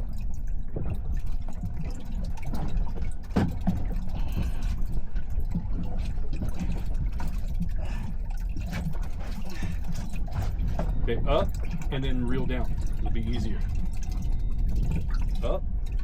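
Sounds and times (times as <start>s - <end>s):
steady low rumble: 0.0s - 16.0s
water lapping against boat hull: 0.0s - 16.0s.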